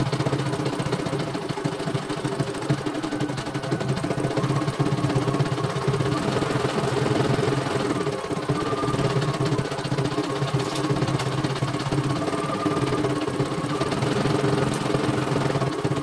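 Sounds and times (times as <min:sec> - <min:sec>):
embroidery machine stitching: 0:00.0 - 0:16.0.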